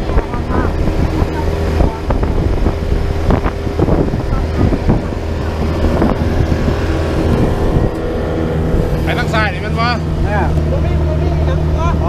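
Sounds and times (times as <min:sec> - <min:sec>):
small boat engine running: 0:00.0 - 0:12.0
wind buffeting microphone: 0:00.0 - 0:12.0.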